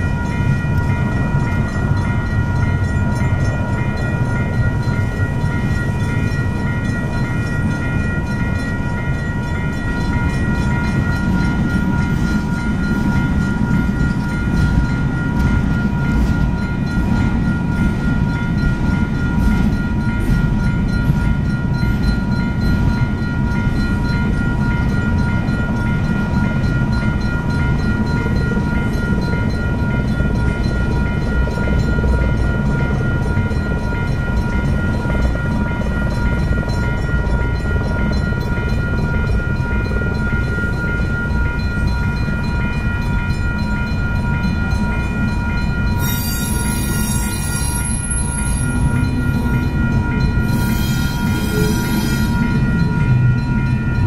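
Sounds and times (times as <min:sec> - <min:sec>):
crossing warning bell ringing: 0:00.0 - 0:54.0
freight train wheels rumbling: 0:00.0 - 0:54.0.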